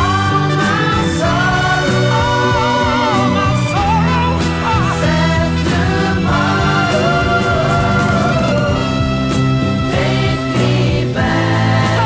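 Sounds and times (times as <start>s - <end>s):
pop song with band backing: 0.0s - 12.0s.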